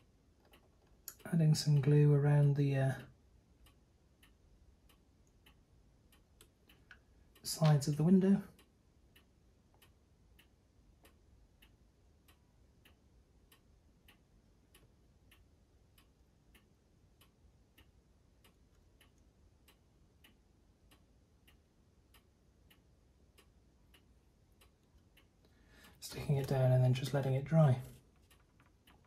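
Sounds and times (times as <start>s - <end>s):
faint regular ticking: 0.0s - 29.0s.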